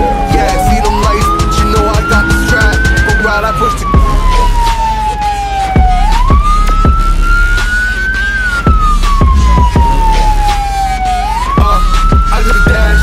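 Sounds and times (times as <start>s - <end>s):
deep bass and kick drum: 0.0s - 5.0s, 5.7s - 7.8s, 8.6s - 13.0s
hip-hop beat: 0.0s - 13.0s
police siren wail: 0.0s - 13.0s.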